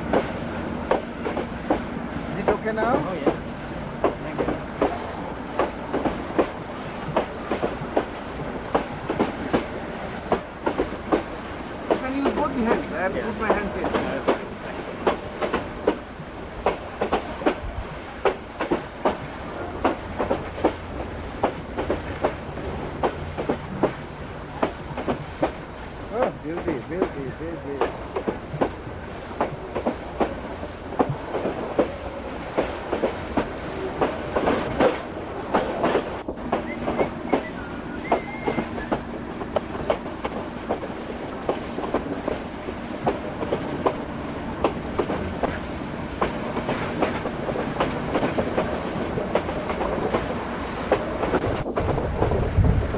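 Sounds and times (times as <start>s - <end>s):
train rumble: 0.0s - 52.9s
train wheels clicking over rail joints: 0.0s - 52.9s.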